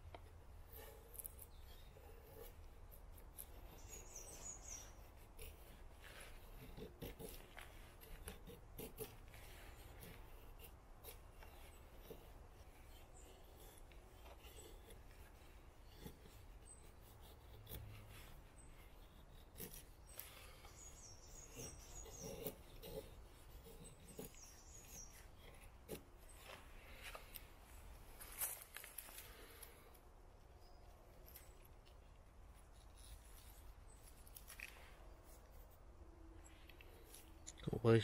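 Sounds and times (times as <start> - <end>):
knife shaving wood: 0.0 - 37.7.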